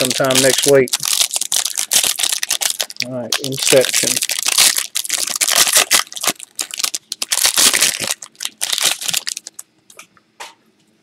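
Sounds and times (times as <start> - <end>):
foil wrapper crinkling: 0.0 - 9.7.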